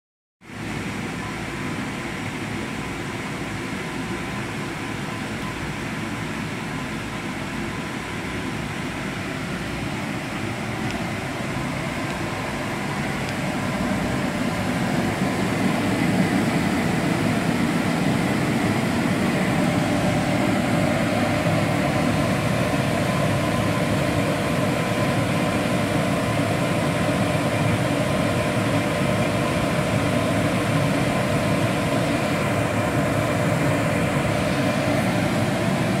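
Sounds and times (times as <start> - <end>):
steady humming tones: 0.5 - 36.0
burner and fan rushing: 7.2 - 36.0.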